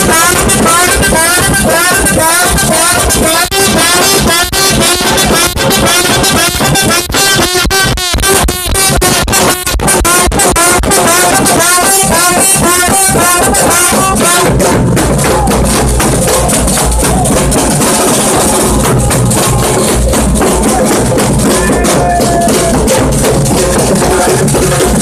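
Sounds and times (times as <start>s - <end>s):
drummers playing marching drums: 0.0s - 25.0s.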